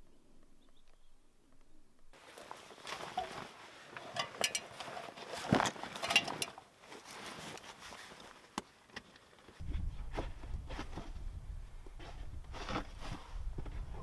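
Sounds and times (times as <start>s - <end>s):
rustling and scraping: 2.2s - 14.0s.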